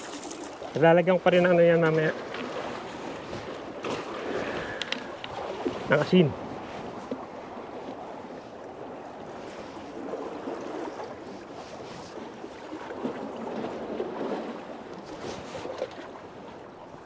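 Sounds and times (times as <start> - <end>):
sea water lapping against pier: 0.0 - 17.0.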